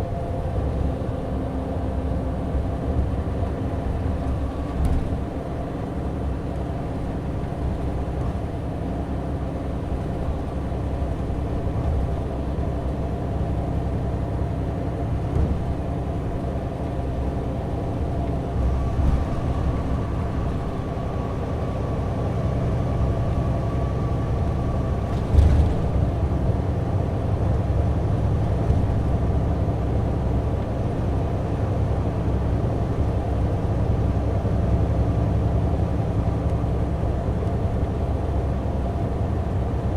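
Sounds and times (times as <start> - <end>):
coach engine drone: 0.0 - 39.9
road rumble: 0.0 - 39.9.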